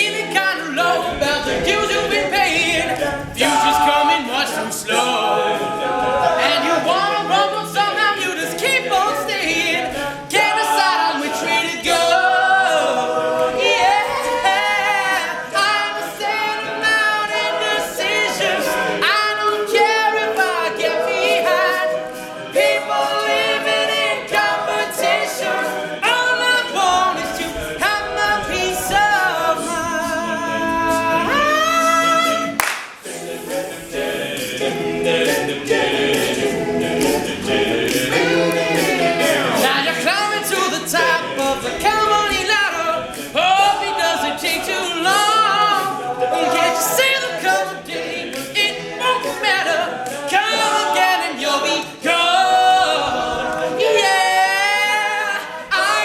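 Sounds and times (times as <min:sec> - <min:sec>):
male a cappella group singing: 0:00.0 - 0:56.0.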